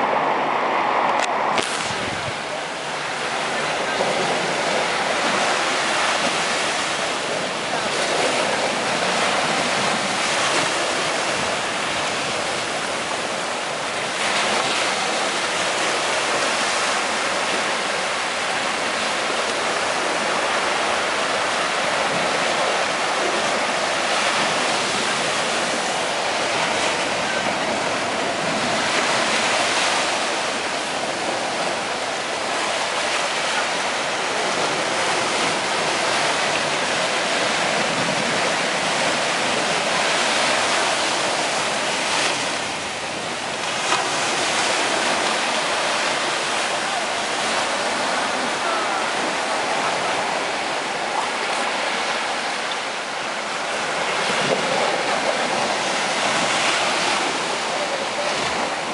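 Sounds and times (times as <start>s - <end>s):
ocean surf breaking on beach: 0.0s - 58.9s.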